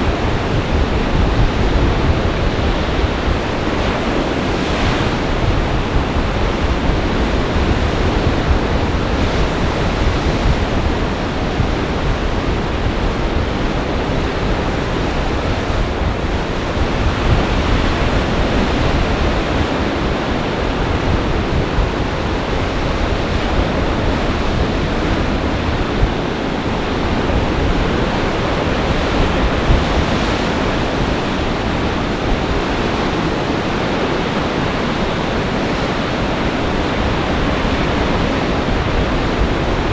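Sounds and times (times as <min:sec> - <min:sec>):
waves crashing: 0:00.0 - 0:39.9
wind buffeting microphone: 0:00.0 - 0:39.9.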